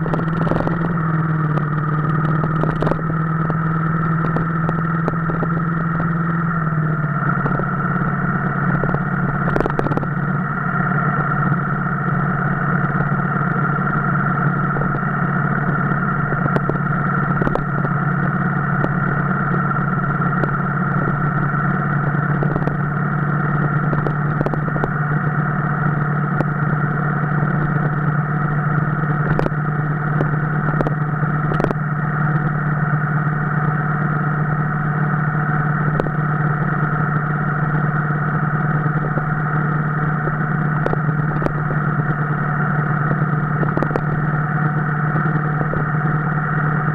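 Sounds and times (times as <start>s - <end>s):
motorcycle engine droning: 0.0s - 46.9s.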